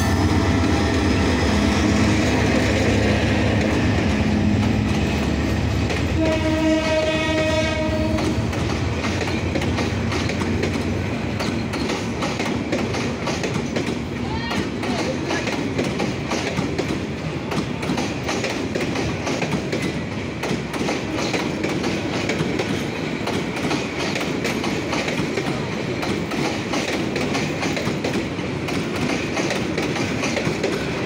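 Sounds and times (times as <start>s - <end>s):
train wheels clattering over rail joints: 0.4s - 31.0s.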